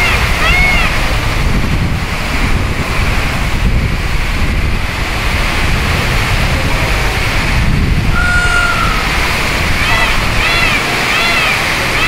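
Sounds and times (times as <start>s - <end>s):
rain falling: 0.0s - 12.0s
wind buffeting microphone: 0.0s - 12.0s.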